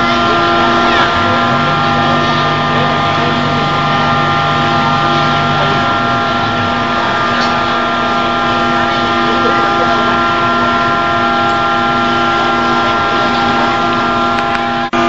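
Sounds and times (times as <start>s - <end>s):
hose spraying water: 0.0s - 14.6s
low hum: 0.0s - 15.0s
pump engine droning: 0.0s - 15.0s.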